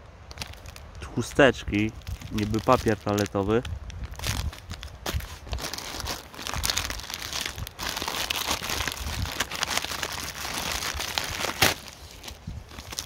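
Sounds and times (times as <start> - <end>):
plastic packets crinkling: 0.3 - 13.0.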